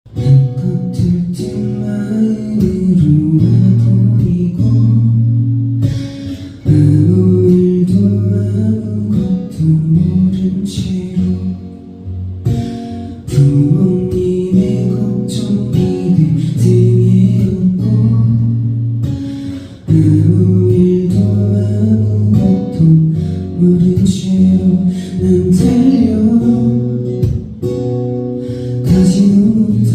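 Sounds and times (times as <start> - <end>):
acoustic guitar strumming chords: 0.1 - 29.9.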